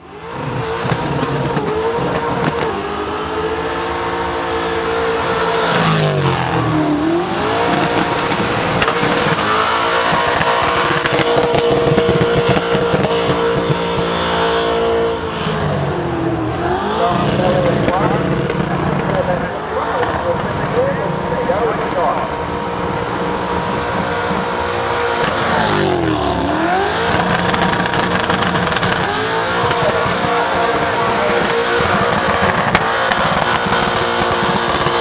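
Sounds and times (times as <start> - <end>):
car engine revving high: 0.0 - 35.0.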